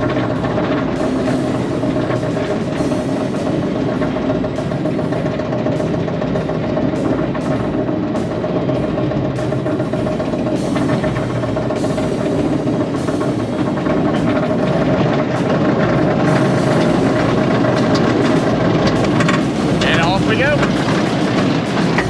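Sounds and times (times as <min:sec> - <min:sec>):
lift chain whining: 0:00.0 - 0:22.0
rapid clicking on track: 0:00.0 - 0:22.0.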